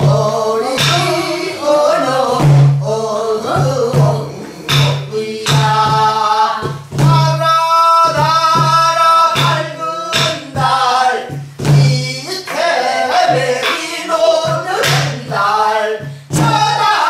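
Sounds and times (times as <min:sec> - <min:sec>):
barrel drum strokes: 0:00.0 - 0:17.0
person singing folk song: 0:00.0 - 0:17.0.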